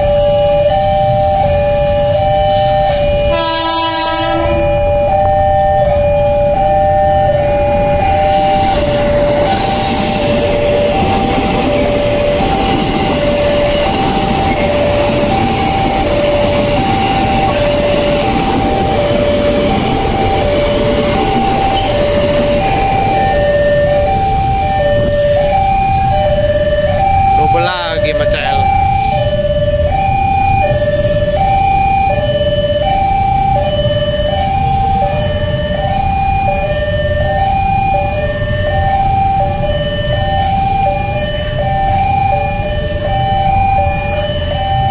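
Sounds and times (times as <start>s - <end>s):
electric train passing: 0.0s - 44.9s
level crossing alarm two-tone signal: 0.0s - 44.9s.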